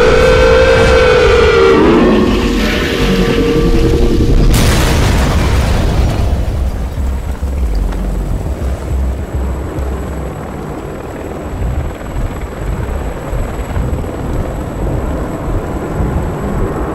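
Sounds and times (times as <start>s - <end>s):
deep rumbling: 0.0s - 16.9s.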